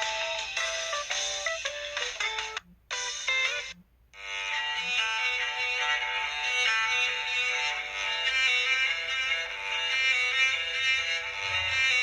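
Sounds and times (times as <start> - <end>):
synthesized phone ringtone melody: 0.0 - 12.0.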